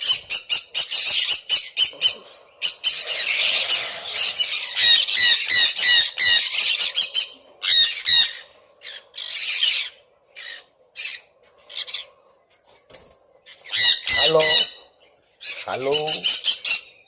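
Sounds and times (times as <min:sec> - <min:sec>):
parrots screeching: 0:00.0 - 0:12.1, 0:13.4 - 0:17.0.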